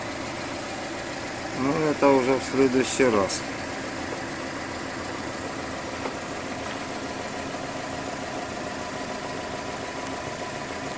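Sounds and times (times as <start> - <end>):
engine idling hum: 0.0 - 10.9.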